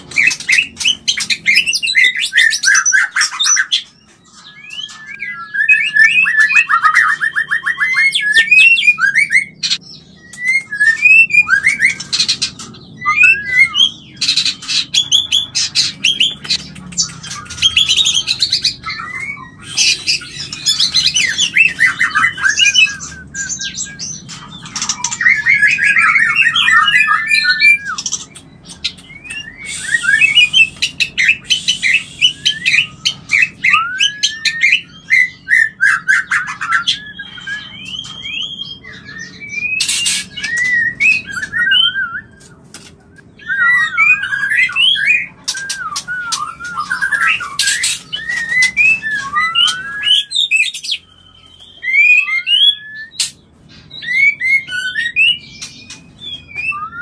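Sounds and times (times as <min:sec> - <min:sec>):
songbird singing whistled trills: 0:00.0 - 0:57.0.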